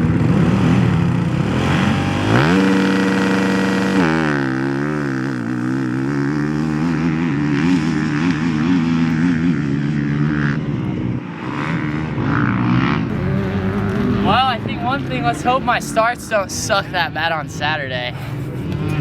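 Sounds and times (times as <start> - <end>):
motocross bike engine revving: 0.0 - 16.6.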